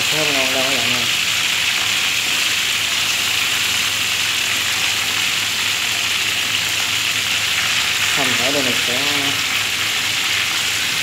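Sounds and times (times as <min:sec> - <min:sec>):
meat sizzling in a wok: 0:00.0 - 0:11.0.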